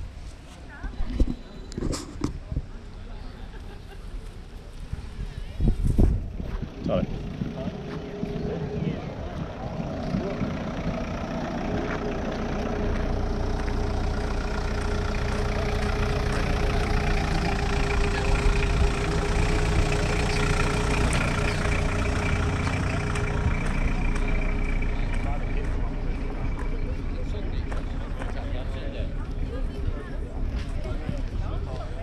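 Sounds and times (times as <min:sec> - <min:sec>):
car engine idling: 0:06.1 - 0:32.0.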